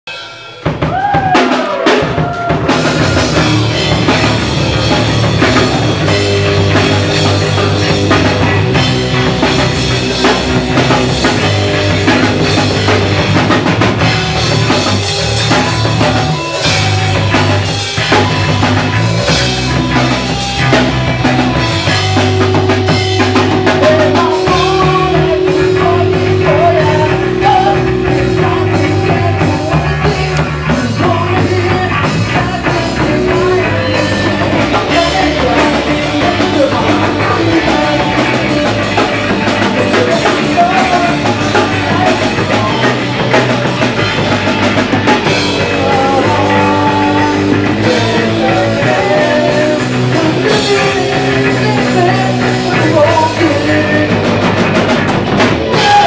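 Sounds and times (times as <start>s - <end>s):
rock band playing: 0.1s - 56.0s.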